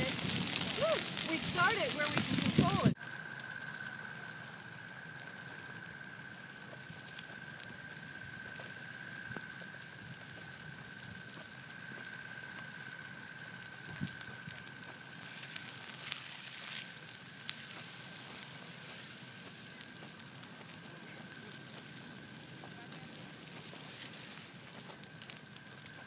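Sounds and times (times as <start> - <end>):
fire crackles and pops: 0.0 - 26.0
grass fire hissing: 0.0 - 26.0.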